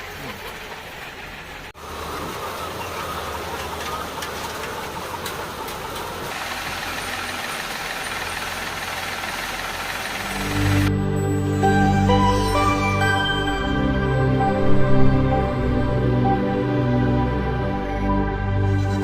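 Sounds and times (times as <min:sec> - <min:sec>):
low motor hum: 0:00.6 - 0:12.3, 0:13.3 - 0:19.0.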